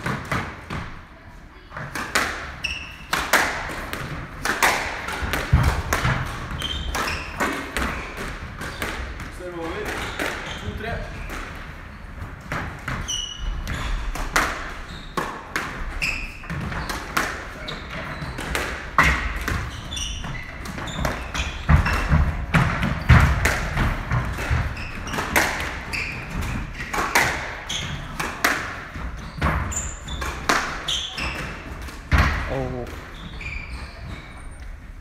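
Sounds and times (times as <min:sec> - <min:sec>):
squash ball hitting rackets and walls: 0:00.0 - 0:34.5
shoes squeaking on wooden floor: 0:02.6 - 0:03.2, 0:05.0 - 0:35.0.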